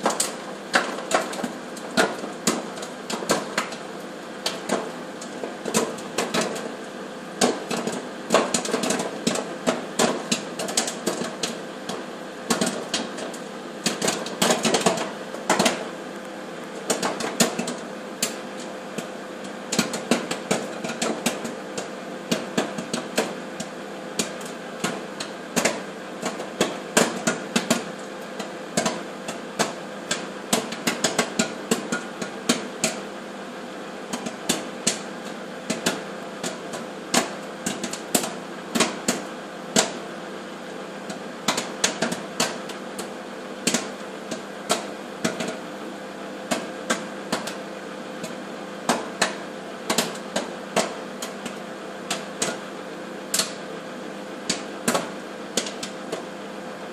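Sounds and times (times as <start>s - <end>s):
microwave oven humming: 0.0s - 56.9s
popcorn popping: 0.0s - 56.9s.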